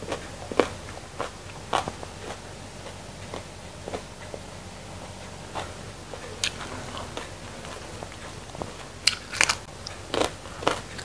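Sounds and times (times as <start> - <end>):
chewing crisp raw vegetables: 0.0 - 11.0.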